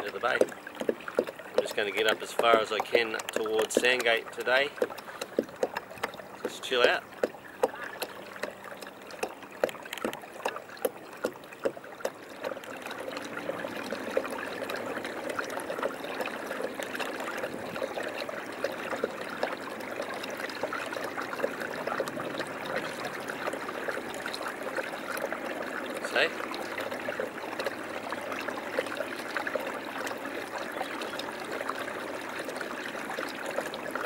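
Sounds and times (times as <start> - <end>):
water lapping and trickling: 0.0 - 34.0.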